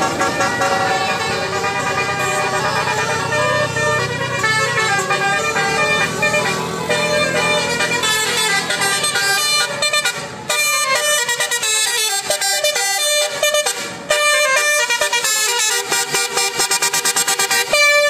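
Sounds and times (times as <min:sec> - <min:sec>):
multi-tone bus horn tune: 0:00.0 - 0:18.0.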